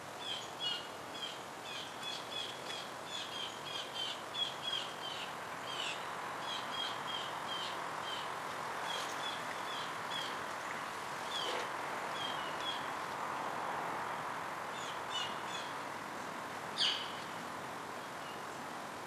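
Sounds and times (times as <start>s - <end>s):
outdoor background rush: 0.0s - 19.0s
small birds chirping: 0.2s - 13.0s, 14.8s - 17.4s.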